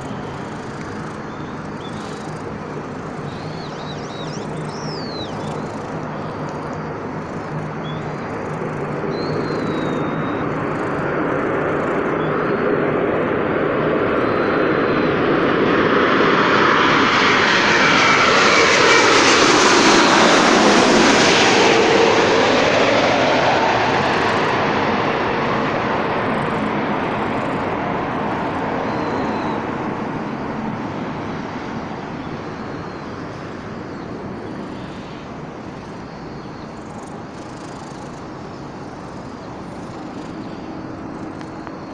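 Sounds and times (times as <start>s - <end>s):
aircraft flying over: 0.0s - 41.9s.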